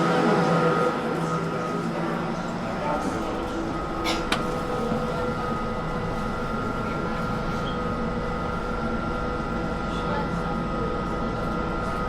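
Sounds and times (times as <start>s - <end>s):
constant high whine: 0.0s - 12.0s
train carriage rumble: 0.0s - 12.0s.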